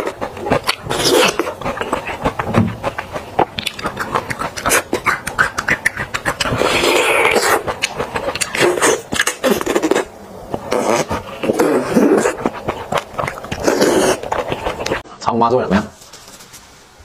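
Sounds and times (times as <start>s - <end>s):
lip smacks and clicks: 0.0s - 15.0s
mouth sucking and slurping: 0.0s - 15.1s.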